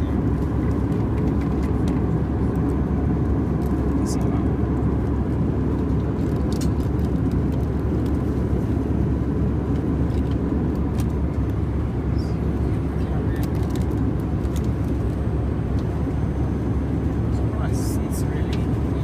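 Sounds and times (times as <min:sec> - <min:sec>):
airplane cabin noise: 0:00.0 - 0:19.0.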